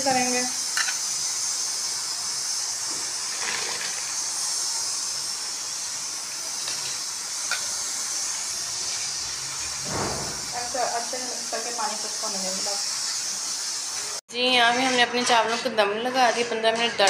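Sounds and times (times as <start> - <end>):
boiling water hissing: 0.0 - 17.0.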